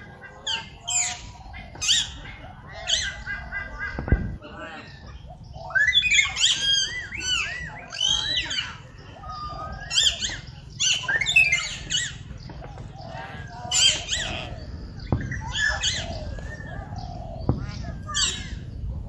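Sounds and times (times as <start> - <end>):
birds chirping and squawking: 0.0 - 19.0.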